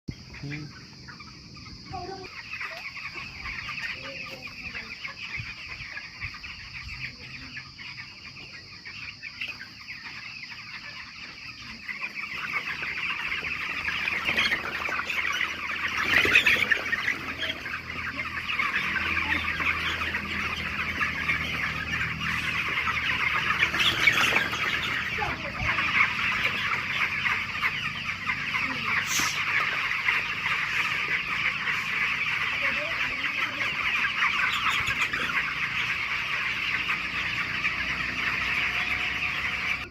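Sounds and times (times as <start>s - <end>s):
chickens clucking: 0.1s - 39.9s.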